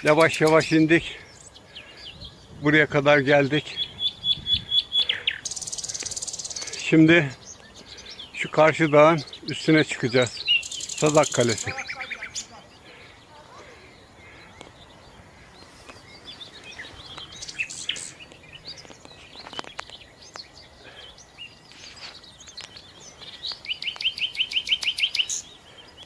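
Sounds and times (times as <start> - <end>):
wild birds chirping: 0.0 - 26.0.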